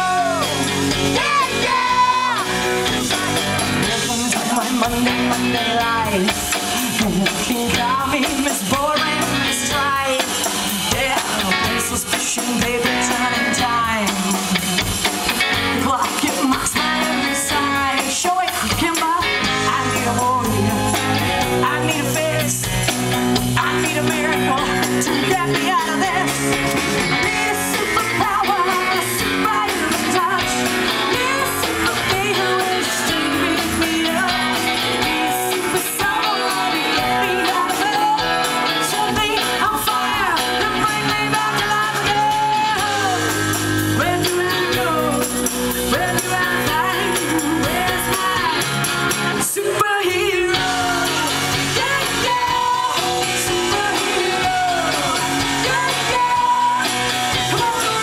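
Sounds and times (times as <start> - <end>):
live rock band playing: 0.0 - 58.0
woman singing: 0.0 - 58.0.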